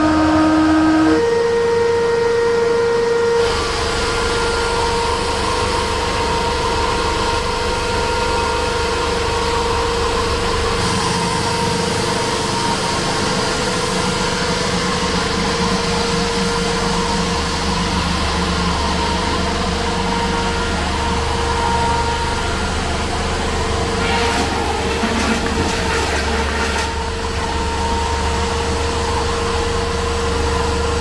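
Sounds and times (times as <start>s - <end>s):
sawdust machine motor hum: 0.0s - 31.0s.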